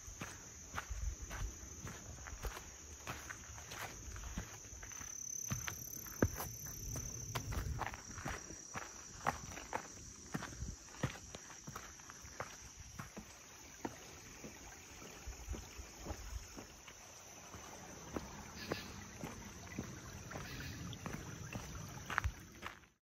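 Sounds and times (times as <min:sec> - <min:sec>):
footsteps on rocky trail: 0:00.0 - 0:23.0
insect drone: 0:00.0 - 0:23.0.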